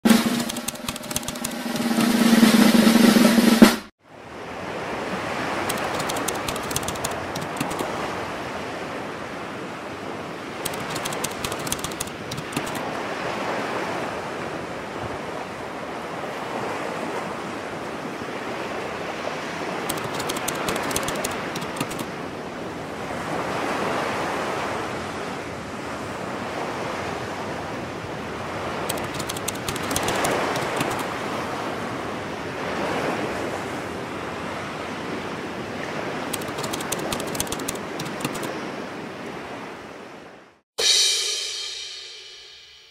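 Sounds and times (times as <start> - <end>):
ocean surf breaking: 0.0 - 40.2.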